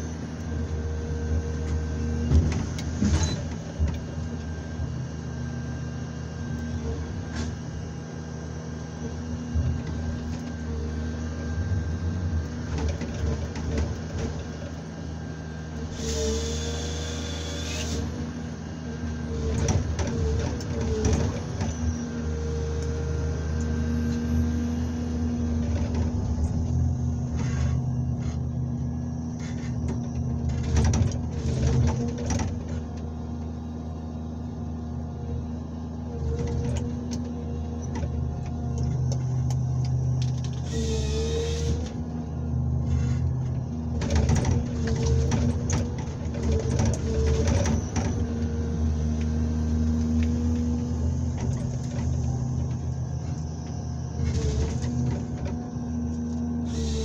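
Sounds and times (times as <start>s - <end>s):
diesel engine and hydraulic drone: 0.0s - 57.0s.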